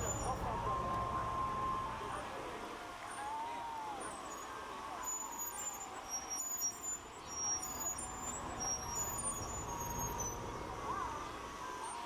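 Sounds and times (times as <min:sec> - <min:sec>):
faint voices: 0:00.0 - 0:12.0
traffic noise: 0:00.0 - 0:12.0.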